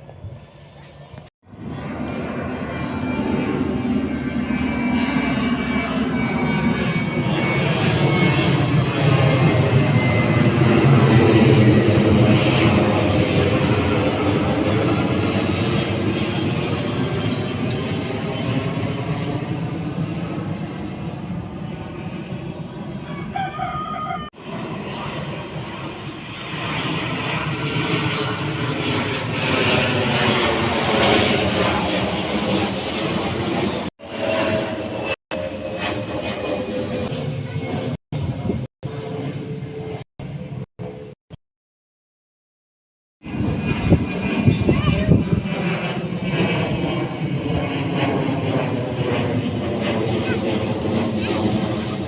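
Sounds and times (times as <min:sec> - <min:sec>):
aircraft flying overhead: 0:00.0 - 0:41.2, 0:43.2 - 0:52.0.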